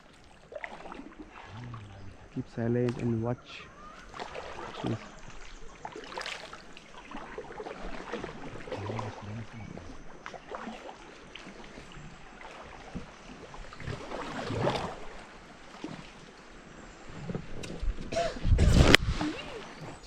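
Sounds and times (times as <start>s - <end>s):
river water lapping and splashing: 0.0s - 20.0s.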